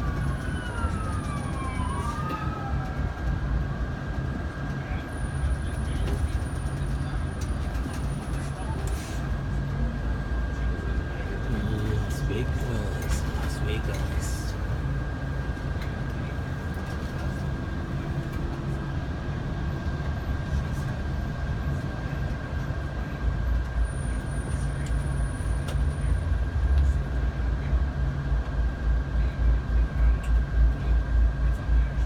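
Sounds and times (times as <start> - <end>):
vehicle rumble from inside: 0.0 - 32.0.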